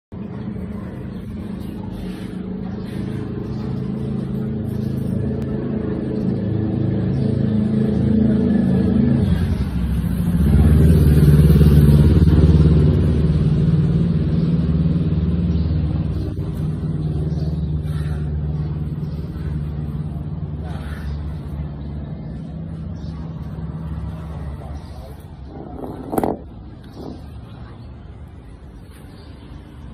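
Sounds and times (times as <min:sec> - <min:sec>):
engine running: 0:00.2 - 0:27.9.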